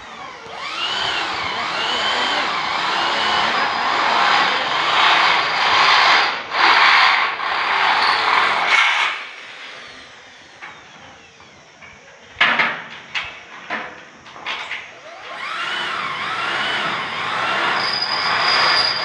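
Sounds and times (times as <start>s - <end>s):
power tool whine: 0.0s - 12.4s, 13.1s - 19.0s.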